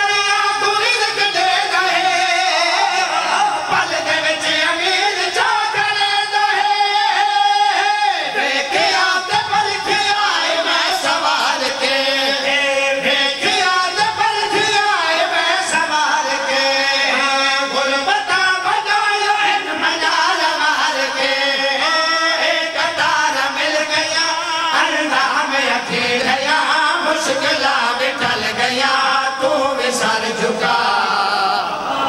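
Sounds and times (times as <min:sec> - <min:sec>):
voices chanting into microphones: 0:00.0 - 0:32.0.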